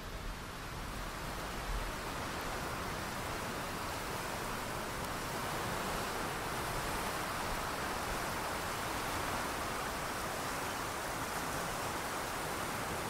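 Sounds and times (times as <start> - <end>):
sea surf washing on shore: 0.3 - 13.0.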